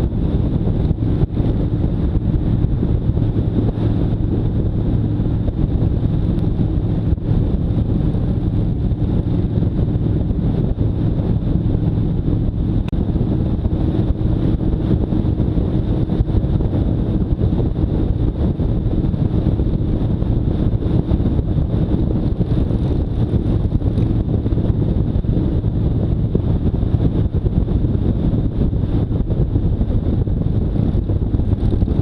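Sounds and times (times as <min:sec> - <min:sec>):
motorcycle engine running: 0:00.0 - 0:32.0
wind buffeting on microphone: 0:00.0 - 0:32.0.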